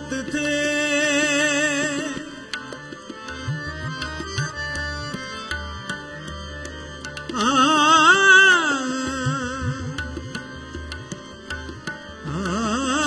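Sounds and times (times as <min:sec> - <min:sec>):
harmonium sustained notes: 0:00.0 - 0:13.0
tabla drumming: 0:00.0 - 0:13.0.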